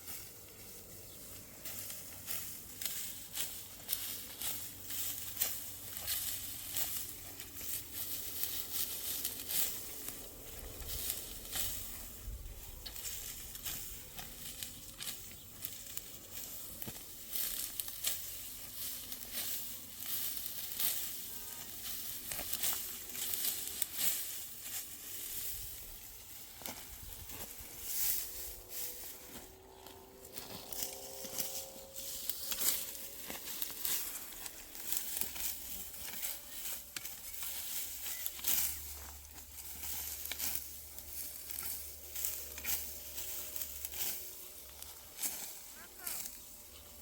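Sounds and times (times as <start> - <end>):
dry rustling and crackling: 0.0 - 47.0.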